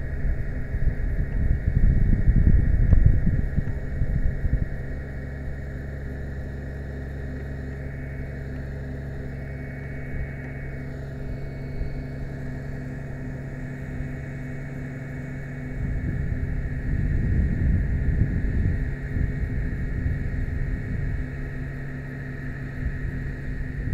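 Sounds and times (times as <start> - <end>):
engine and hydraulics humming: 0.0 - 23.9.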